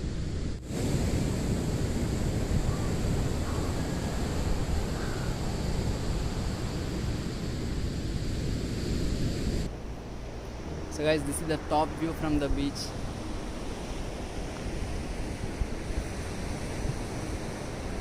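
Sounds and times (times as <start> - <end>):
wind blowing over microphone: 0.0 - 18.0.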